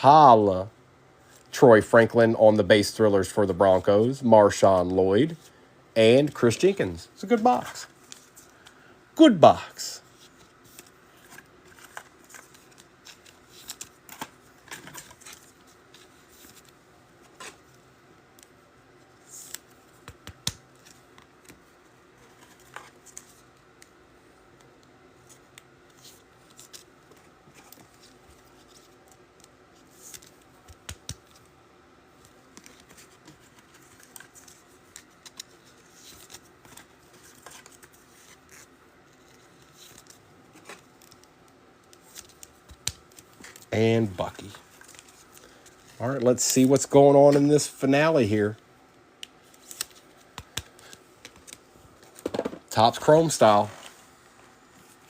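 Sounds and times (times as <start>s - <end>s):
handling trading cards: 4.5s - 55.0s.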